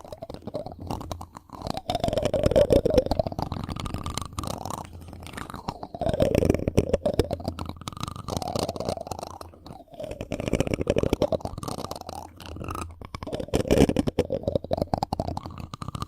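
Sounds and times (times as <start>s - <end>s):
scratching on a microphone: 0.0s - 16.0s.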